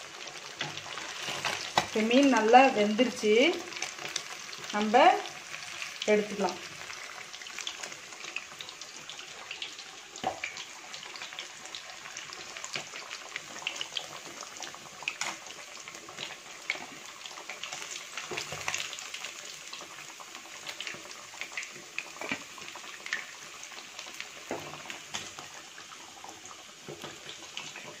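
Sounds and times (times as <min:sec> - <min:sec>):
fish frying in hot oil: 0:00.0 - 0:28.0.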